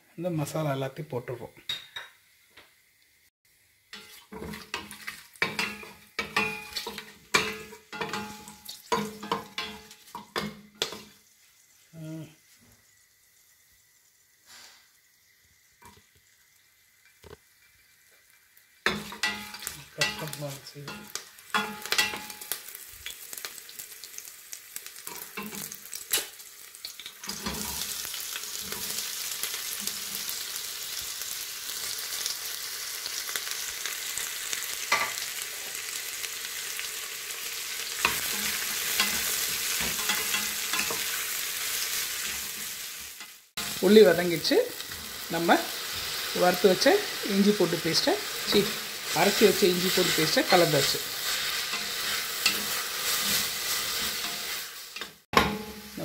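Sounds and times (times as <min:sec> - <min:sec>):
onions sizzling: 0:00.0 - 0:56.0
spices crackling in hot oil: 0:00.2 - 0:56.0.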